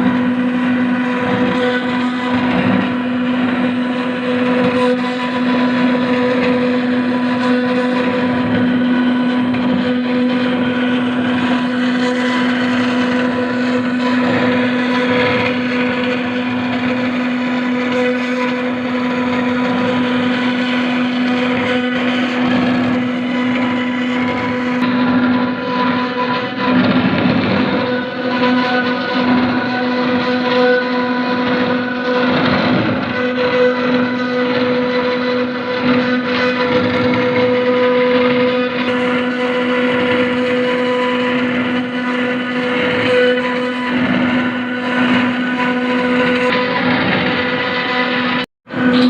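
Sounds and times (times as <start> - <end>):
cnc router spindle whining: 0.0 - 49.0.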